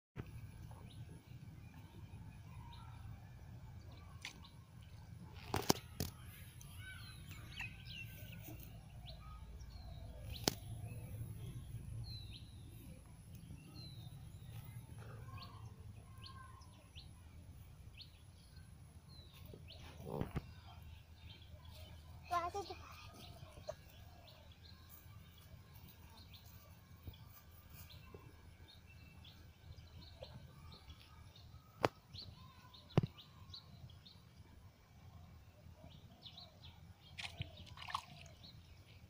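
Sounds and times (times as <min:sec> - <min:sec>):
birds chirping: 0:00.2 - 0:39.0.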